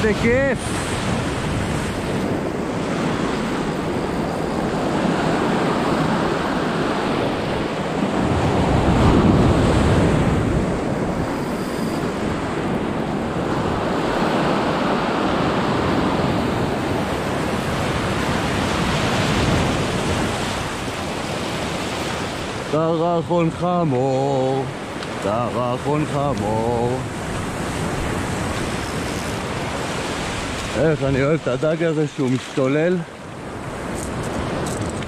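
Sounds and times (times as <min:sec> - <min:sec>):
waves breaking over rocks: 0:00.0 - 0:35.0.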